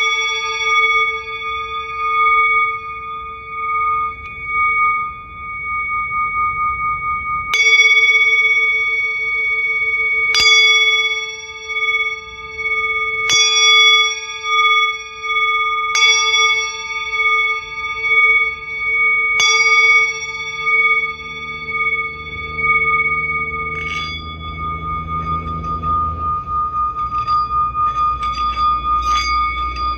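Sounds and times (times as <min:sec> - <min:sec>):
metal singing bowl ringing: 0:00.0 - 0:29.9.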